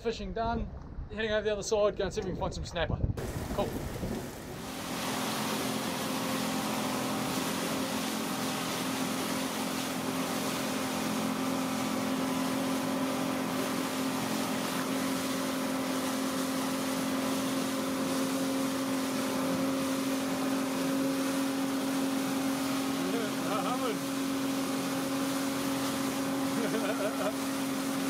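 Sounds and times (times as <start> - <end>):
wind and wake water rushing: 0.2 - 28.0
outboard motor droning: 3.2 - 28.0.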